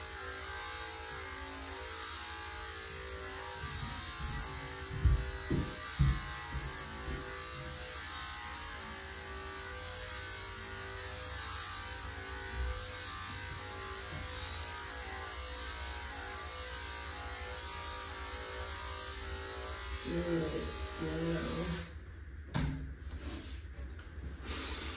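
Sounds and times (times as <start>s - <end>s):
electric clippers buzzing: 0.0s - 22.0s.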